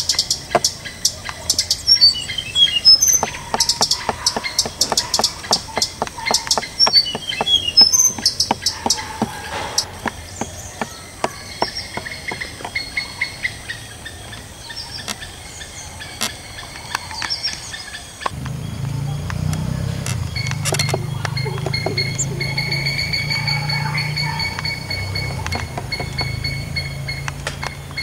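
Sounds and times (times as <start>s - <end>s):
birds chirping: 0.0s - 28.0s
sharp ticks: 0.0s - 28.0s.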